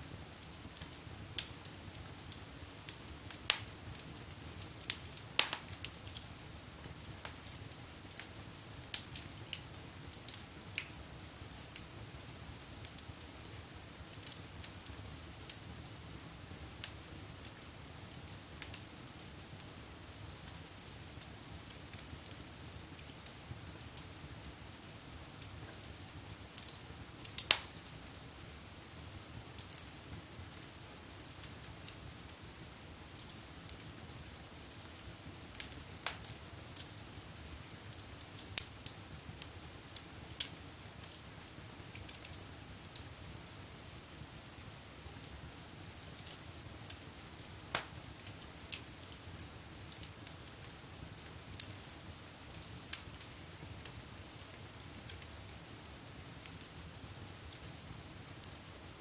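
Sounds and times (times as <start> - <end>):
wood fire crackling and popping: 0.1 - 59.0.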